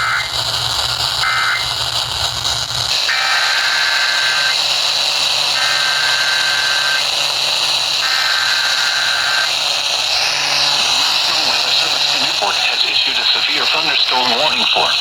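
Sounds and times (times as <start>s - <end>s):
buzzy digital data tones: 0.0s - 15.0s
radio static: 2.6s - 15.0s.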